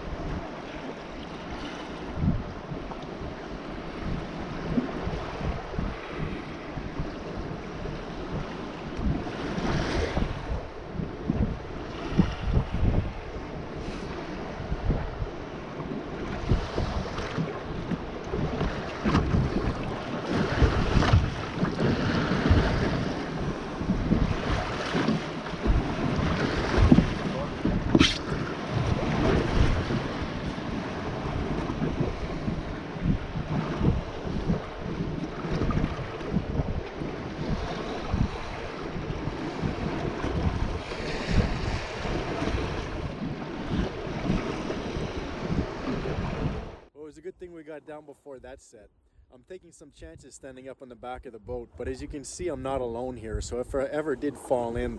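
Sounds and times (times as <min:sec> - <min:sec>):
wind buffeting microphone: 0:00.0 - 0:46.9, 0:49.2 - 0:54.9
lake waves washing around boat: 0:00.0 - 0:48.8, 0:49.8 - 0:54.9.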